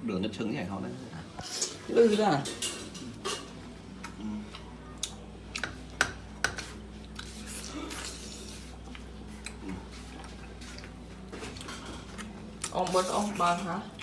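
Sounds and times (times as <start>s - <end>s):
steady low hum: 2.5s - 14.0s.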